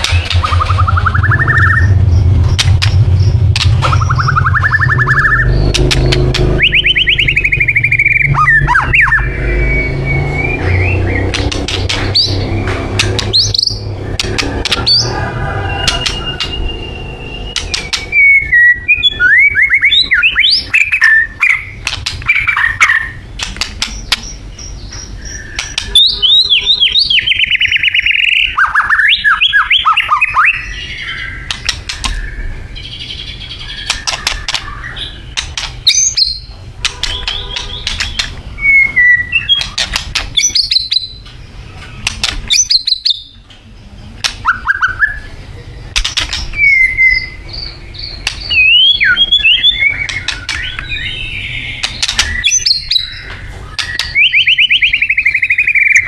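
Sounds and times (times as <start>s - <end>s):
songbird whistles and trills: 0.0s - 2.0s, 3.6s - 23.2s, 23.8s - 43.4s, 44.3s - 56.0s
sharp clicking bird notes: 0.0s - 45.3s, 45.9s - 56.0s.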